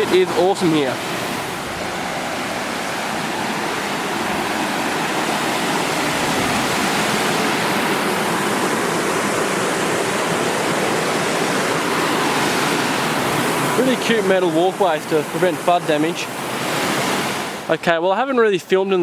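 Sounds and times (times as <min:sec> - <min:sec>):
waterfall pouring: 0:00.0 - 0:17.7.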